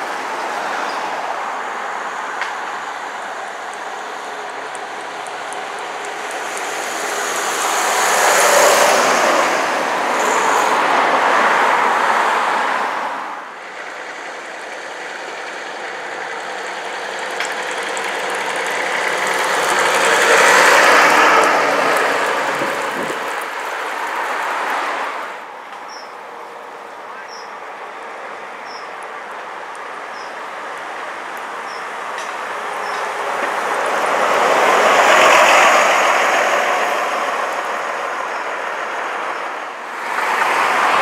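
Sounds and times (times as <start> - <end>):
road vehicles driving past: 0.0 - 41.0.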